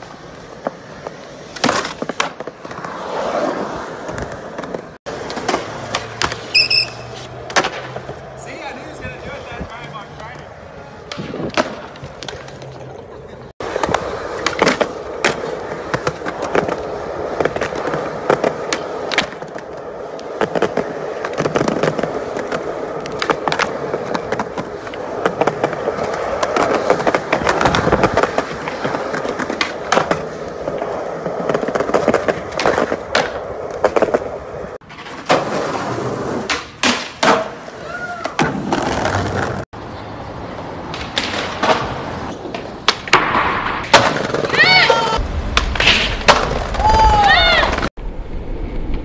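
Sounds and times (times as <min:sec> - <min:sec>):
skateboard clacks: 0:00.0 - 0:39.6, 0:40.4 - 0:47.9
skateboard wheels rolling on concrete: 0:00.0 - 0:49.0.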